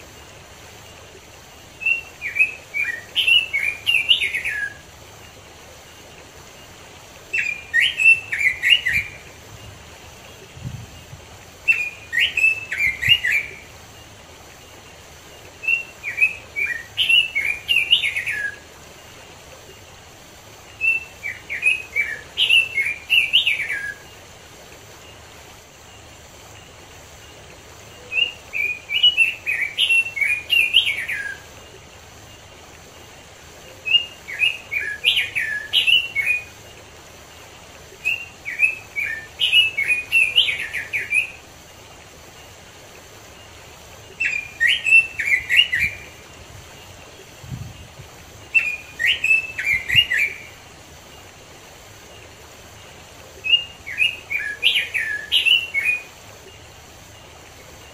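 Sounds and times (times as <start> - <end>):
bird warbling song: 0.0 - 19.9, 20.5 - 42.6, 43.3 - 51.3, 52.0 - 57.9.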